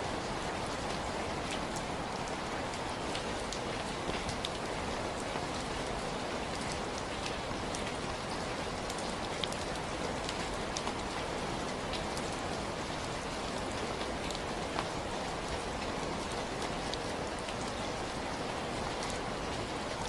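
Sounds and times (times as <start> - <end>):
rain hiss: 0.0 - 20.0
raindrops ticking on hard surface: 0.1 - 20.0.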